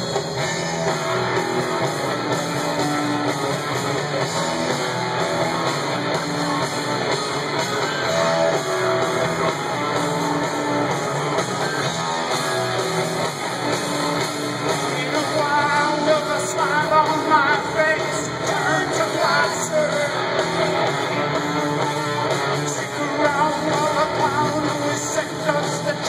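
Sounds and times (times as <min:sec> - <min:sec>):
electric guitar chords: 0:00.0 - 0:26.0
live rock band playing: 0:00.0 - 0:26.0.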